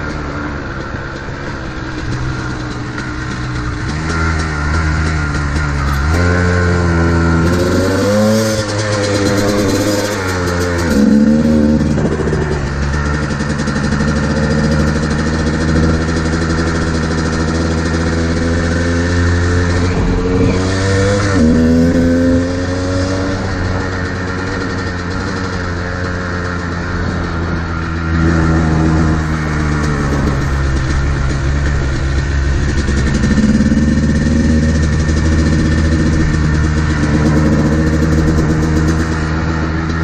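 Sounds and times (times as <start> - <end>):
dirt bike engine revving: 1.7 - 40.0.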